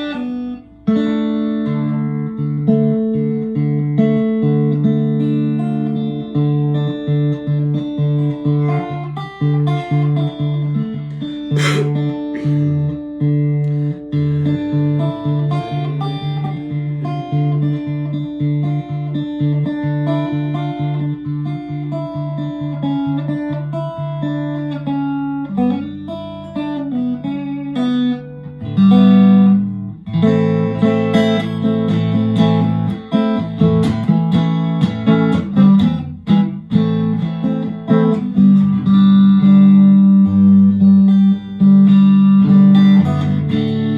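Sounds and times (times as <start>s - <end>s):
electric guitar playing: 0.0s - 43.9s.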